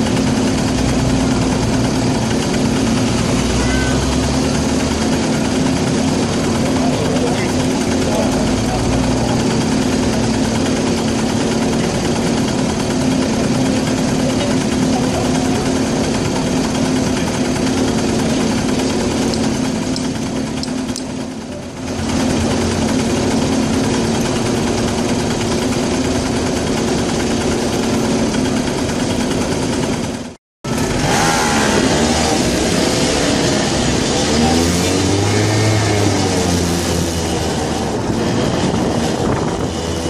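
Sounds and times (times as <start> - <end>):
go-kart engines idling: 0.0 - 40.0.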